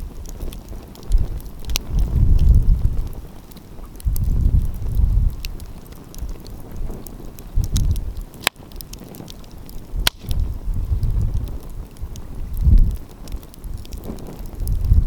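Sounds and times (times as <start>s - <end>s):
loud snaps of fire: 0.0s - 15.0s
wind buffeting microphone: 0.0s - 15.0s
wood fire crackling: 0.0s - 15.0s.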